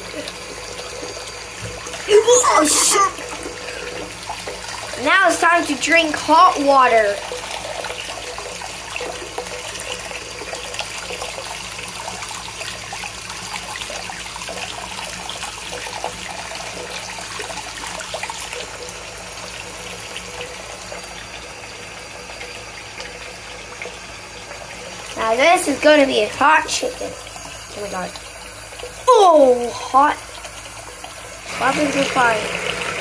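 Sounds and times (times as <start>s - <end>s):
faucet running into sink: 0.0s - 33.0s.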